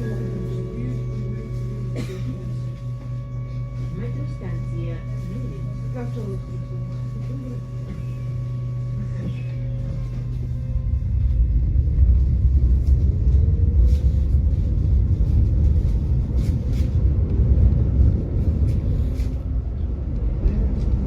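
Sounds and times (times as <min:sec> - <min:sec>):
faint rising whine: 0:00.0 - 0:21.0
tram rumbling on rails: 0:00.0 - 0:21.0.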